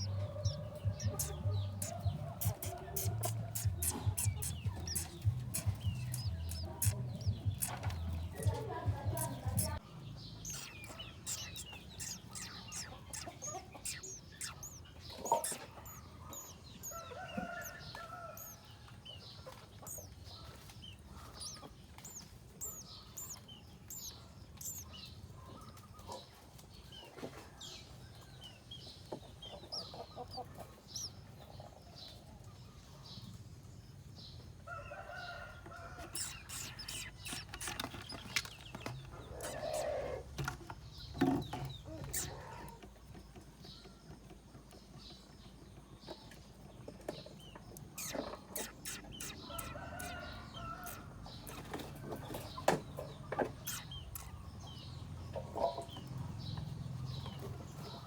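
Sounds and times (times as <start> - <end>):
baby birds peeping: 0.0 - 32.2, 34.2 - 58.0.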